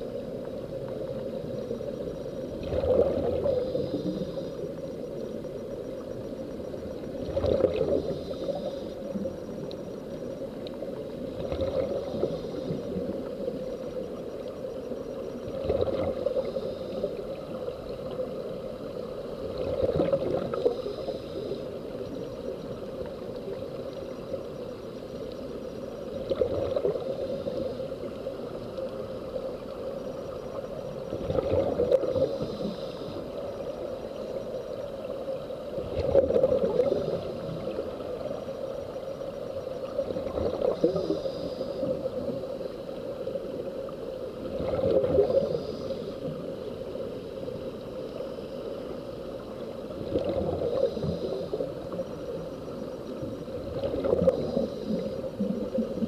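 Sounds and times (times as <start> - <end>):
underwater bubbling and gurgling: 0.0 - 56.0.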